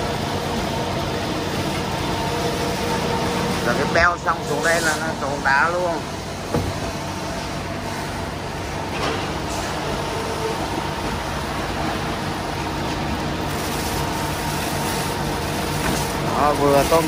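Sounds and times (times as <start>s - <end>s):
machinery humming and rushing: 0.0s - 17.0s.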